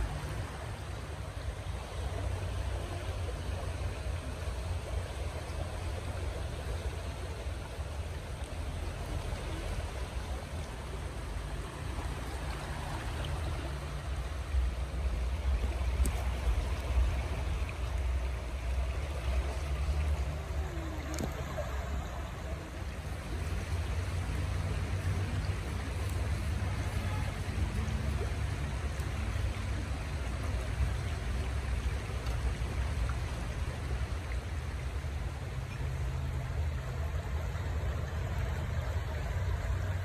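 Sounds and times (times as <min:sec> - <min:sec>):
stream rushing: 0:00.0 - 0:40.0.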